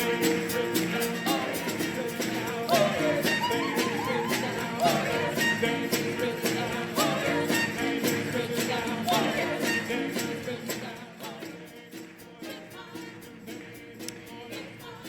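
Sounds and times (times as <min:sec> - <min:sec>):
light percussion beat: 0:00.0 - 0:15.0.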